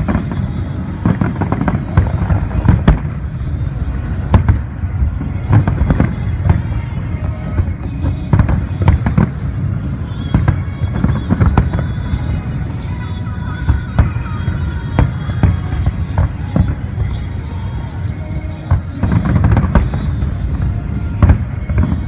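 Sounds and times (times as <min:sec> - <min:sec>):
fireworks bursting with bangs: 0:00.0 - 0:22.0
steady low rumble: 0:00.0 - 0:22.0.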